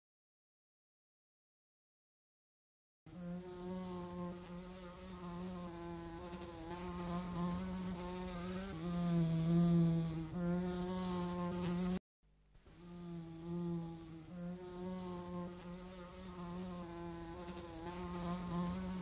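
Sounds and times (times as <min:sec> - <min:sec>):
housefly buzzing: 0:03.1 - 0:12.0, 0:12.7 - 0:19.0.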